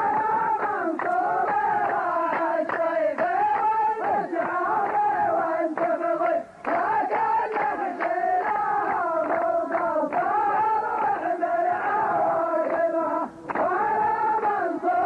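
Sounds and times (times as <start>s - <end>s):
hand claps: 0.0s - 15.0s
male chorus chanting: 0.0s - 15.0s.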